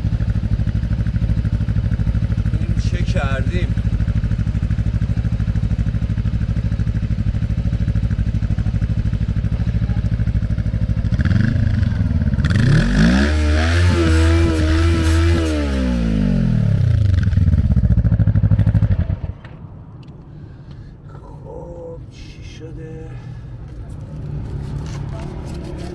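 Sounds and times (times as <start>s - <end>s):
motorcycle engine idling and revving: 0.0s - 20.2s, 23.4s - 25.9s.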